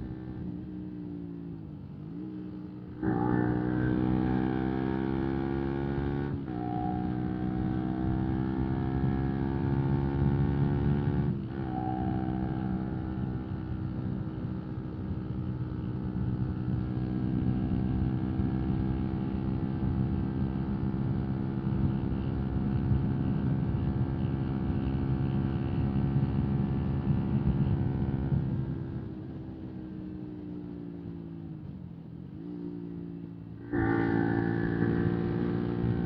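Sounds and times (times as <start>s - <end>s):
motorcycle engine running: 0.0s - 36.0s
road and wind noise: 0.0s - 36.0s.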